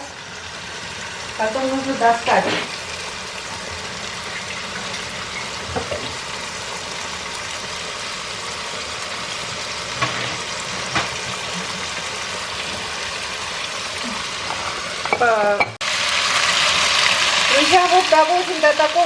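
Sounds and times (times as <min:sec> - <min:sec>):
chicken sizzling in a frying pan: 0:00.0 - 0:19.0.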